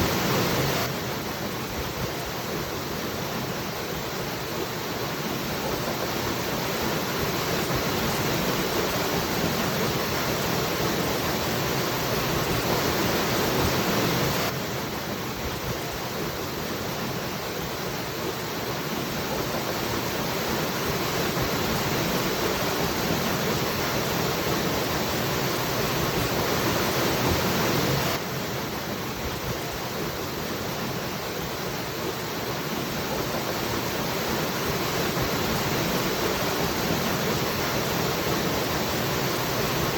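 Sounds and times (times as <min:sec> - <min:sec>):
waterfall rushing: 0:00.0 - 0:14.6, 0:16.0 - 0:39.9.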